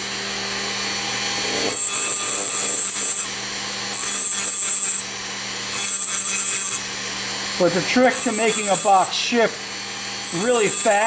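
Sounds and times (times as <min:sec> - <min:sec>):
rotary tool grinding metal: 0:00.0 - 0:11.0.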